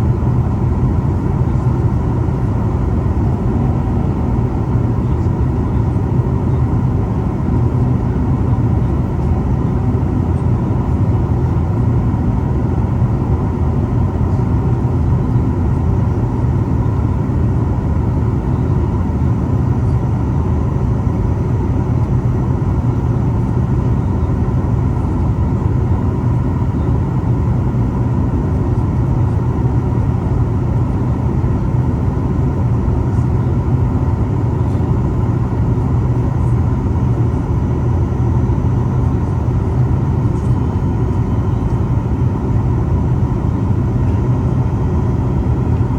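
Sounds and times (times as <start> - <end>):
airflow over fuselage: 0.0 - 45.9
airplane cabin engine rumble: 0.0 - 45.9.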